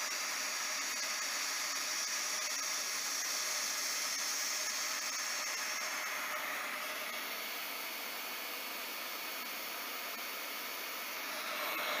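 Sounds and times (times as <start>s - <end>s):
hot-air welder blowing: 0.0s - 9.6s, 11.1s - 12.0s.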